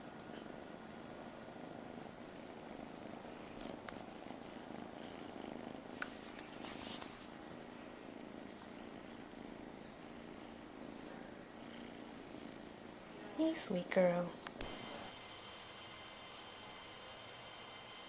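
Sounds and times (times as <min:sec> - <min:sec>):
cat purring: 0:00.0 - 0:15.1.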